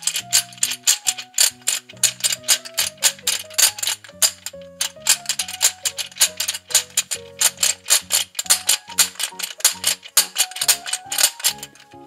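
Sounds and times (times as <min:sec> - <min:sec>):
background music: 0:00.0 - 0:12.0
toy mixer beater clicking: 0:00.0 - 0:12.0.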